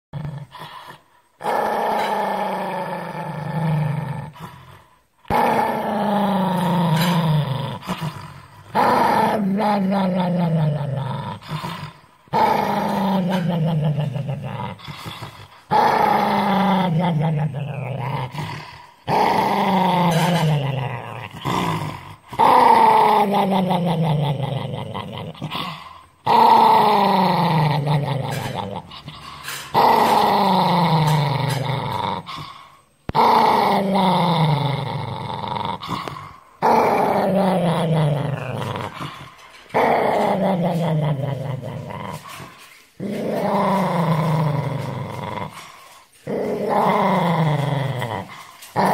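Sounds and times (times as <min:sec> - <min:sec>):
small dog growling: 0:00.1 - 0:48.9.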